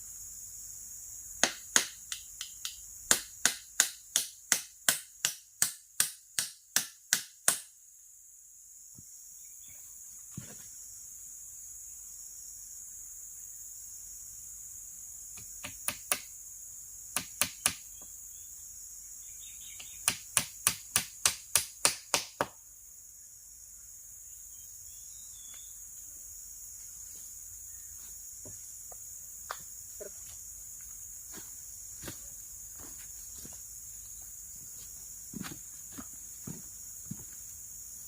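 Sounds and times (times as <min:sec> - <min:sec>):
insect chorus: 0:00.0 - 0:38.0.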